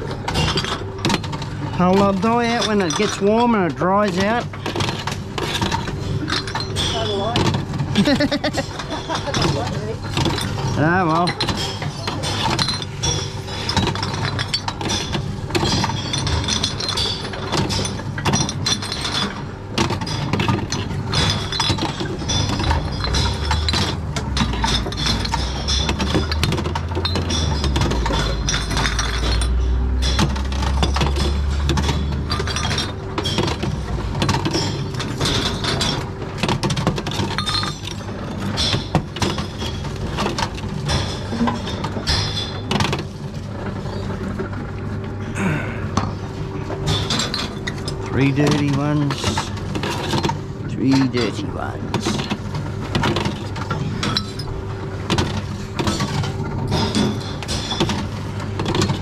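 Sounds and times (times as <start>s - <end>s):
glass bottles clinking: 0.0s - 44.2s, 45.4s - 59.0s
vending machine mechanism: 0.0s - 45.0s, 45.9s - 59.0s.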